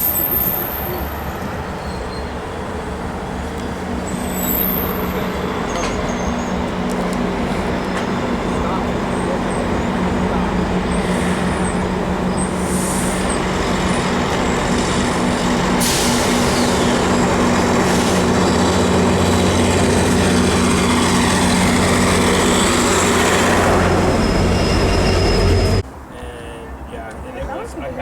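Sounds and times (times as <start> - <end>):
train wheels rumbling on rails: 0.0 - 26.0
diesel locomotive engine drone: 0.0 - 28.0.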